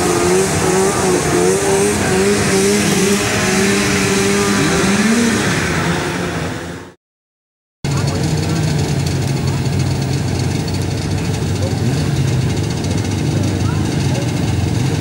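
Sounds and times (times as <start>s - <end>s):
racing atv engines revving: 0.0s - 7.0s, 7.9s - 15.0s.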